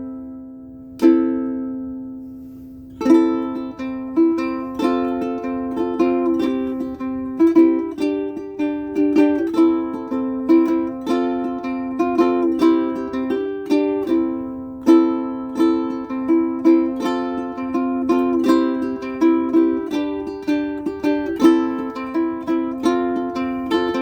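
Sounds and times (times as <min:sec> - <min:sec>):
ukulele strummed and plucked: 0:00.0 - 0:24.0.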